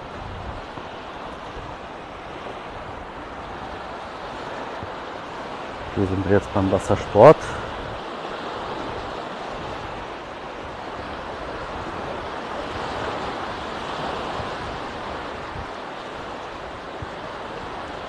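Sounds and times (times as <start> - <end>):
small waves washing on sand: 0.0 - 18.0.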